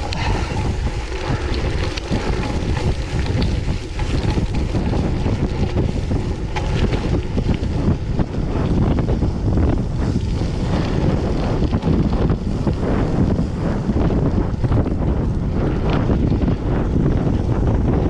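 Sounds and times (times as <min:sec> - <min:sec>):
bike ticks and rattles: 0:00.0 - 0:18.0
wind buffeting microphone: 0:00.0 - 0:18.0.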